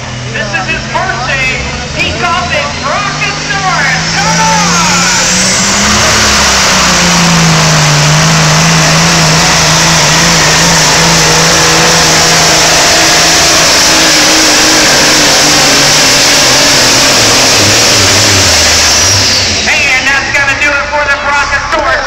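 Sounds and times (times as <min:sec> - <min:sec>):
truck diesel engine at high revs: 0:00.0 - 0:22.0.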